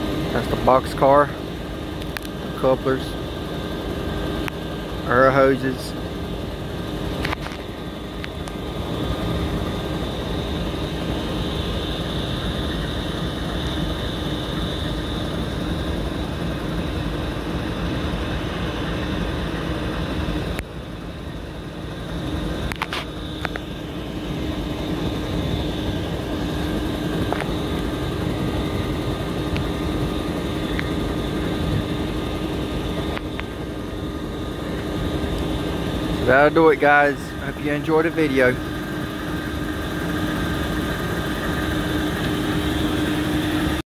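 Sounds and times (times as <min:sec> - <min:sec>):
diesel locomotive idling: 0:00.0 - 0:43.8.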